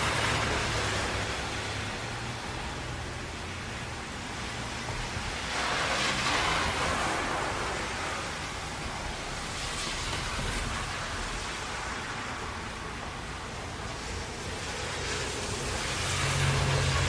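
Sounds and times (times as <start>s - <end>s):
traffic on wet road: 0.0s - 17.0s
tyre spray of passing vehicle: 0.0s - 17.0s.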